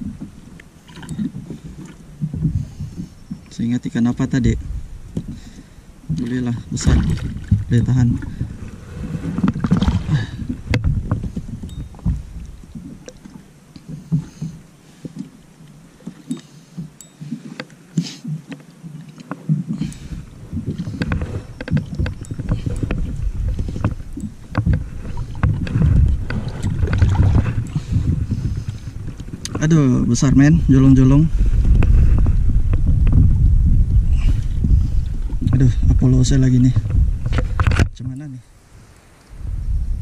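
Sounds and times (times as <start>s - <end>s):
wind and water rumble: 0.0s - 40.0s.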